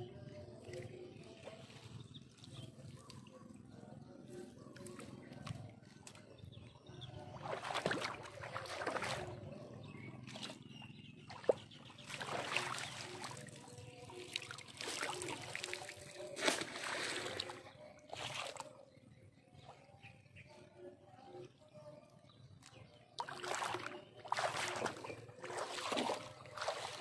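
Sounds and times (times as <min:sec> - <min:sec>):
water sloshing and splashing: 0:00.3 - 0:03.3, 0:04.7 - 0:18.9, 0:22.6 - 0:27.0.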